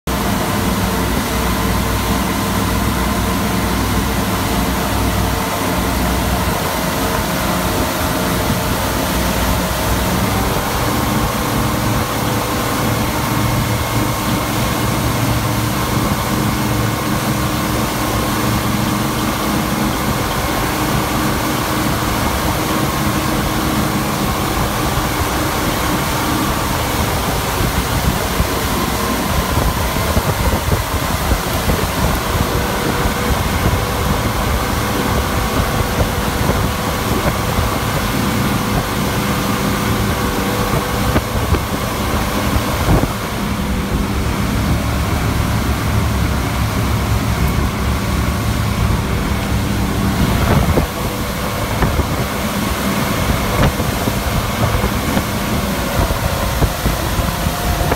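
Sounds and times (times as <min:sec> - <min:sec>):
boat engine running: 0:00.0 - 0:57.9
rushing water: 0:00.0 - 0:57.9
wind: 0:00.0 - 0:57.9.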